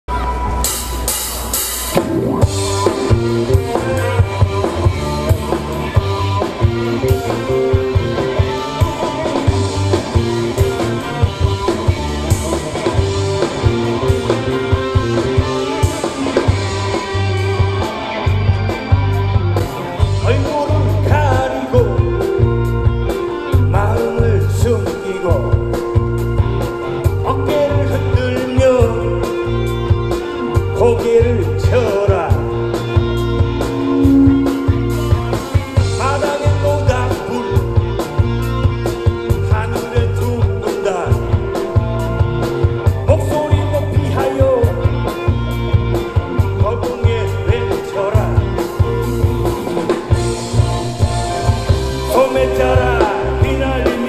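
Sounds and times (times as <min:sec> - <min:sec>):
bass: 0:00.0 - 0:54.0
keyboard: 0:00.0 - 0:54.0
drum kit beat: 0:00.1 - 0:54.0
electric guitars: 0:00.1 - 0:54.0.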